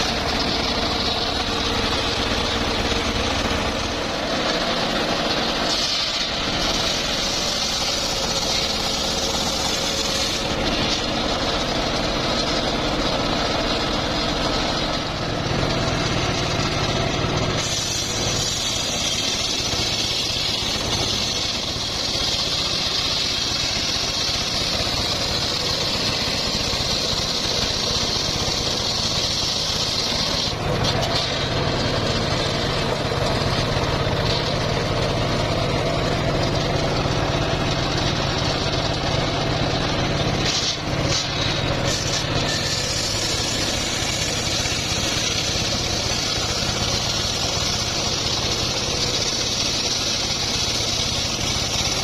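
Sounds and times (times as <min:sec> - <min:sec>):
sawmill engine drone: 0:00.0 - 0:52.0.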